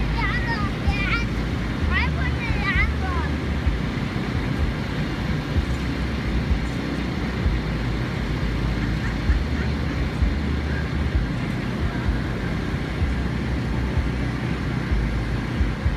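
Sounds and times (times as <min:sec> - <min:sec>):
diesel engine rumbling: 0:00.0 - 0:15.9.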